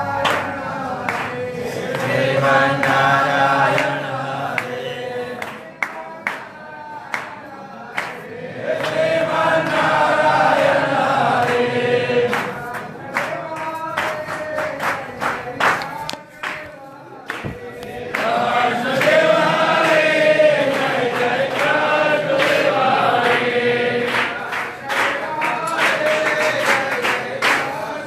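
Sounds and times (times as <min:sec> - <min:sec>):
chorus singing a hymn: 0:00.0 - 0:28.0.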